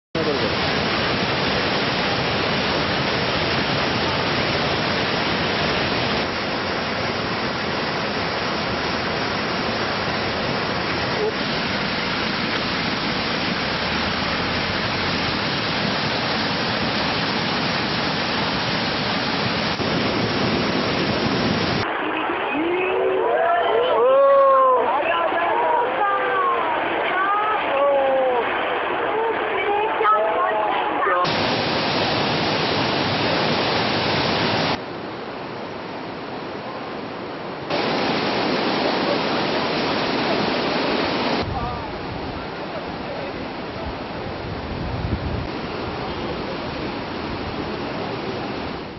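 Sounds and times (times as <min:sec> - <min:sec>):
flooded river rushing: 0:00.2 - 0:48.9.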